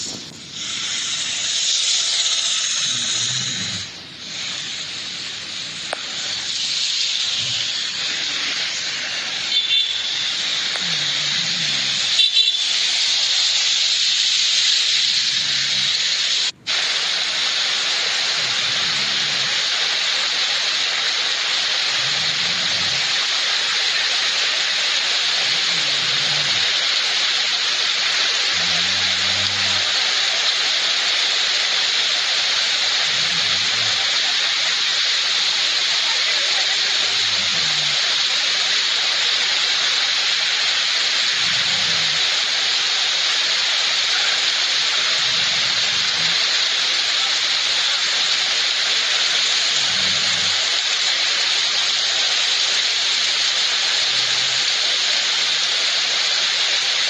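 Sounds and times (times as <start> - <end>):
waterfall pouring onto rock: 0.0 - 57.0.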